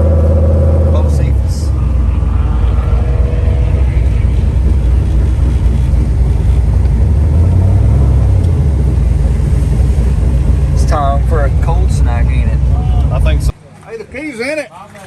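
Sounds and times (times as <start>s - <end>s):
car engine running at low revs: 0.0s - 13.6s.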